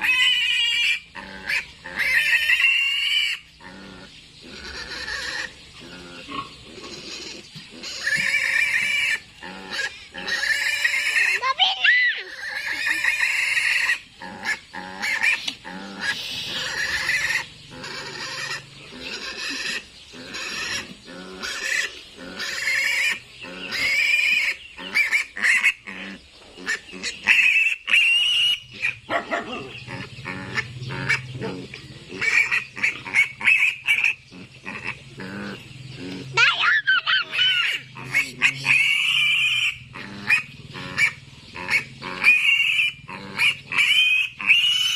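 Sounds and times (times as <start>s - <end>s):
piglet squealing: 0.0s - 31.2s, 32.2s - 44.9s.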